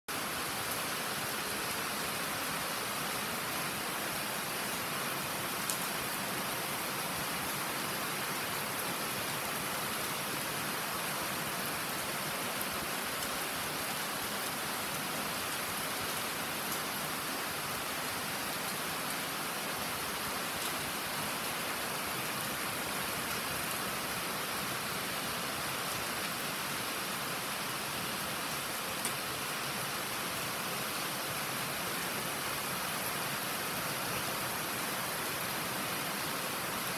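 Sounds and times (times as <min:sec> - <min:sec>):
rain falling: 0:00.1 - 0:36.9.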